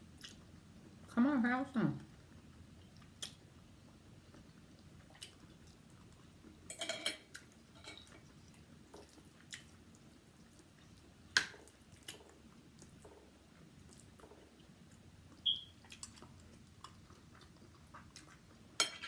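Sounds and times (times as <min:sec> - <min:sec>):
quiet chewing: 0:00.0 - 0:01.1, 0:02.0 - 0:18.8.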